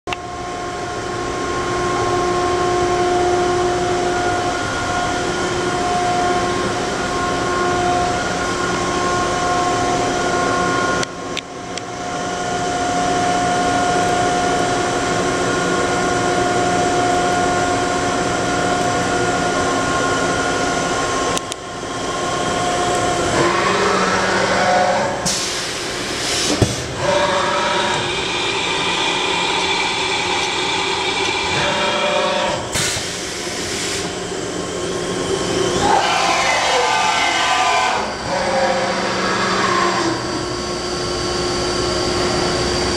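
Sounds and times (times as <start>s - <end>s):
machine spindle whining: 0.3s - 42.9s.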